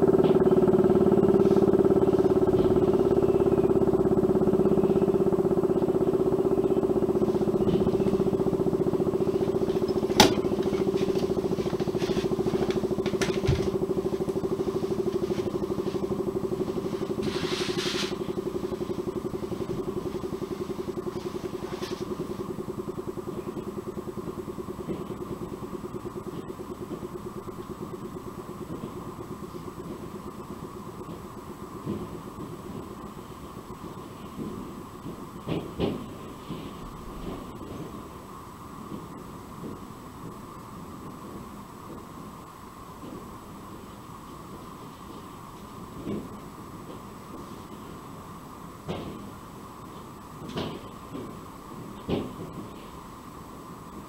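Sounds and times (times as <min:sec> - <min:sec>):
rotary siren low tone: 0:00.0 - 0:51.8.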